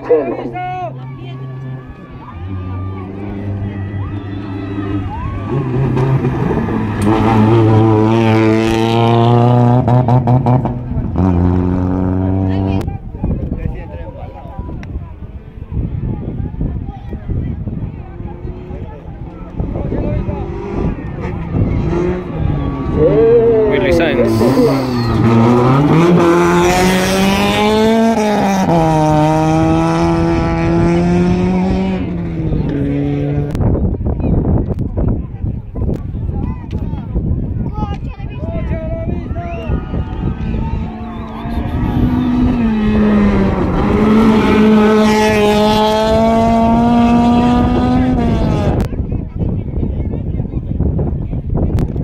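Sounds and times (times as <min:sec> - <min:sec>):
rally car engine at full throttle: 0:00.0 - 0:52.0.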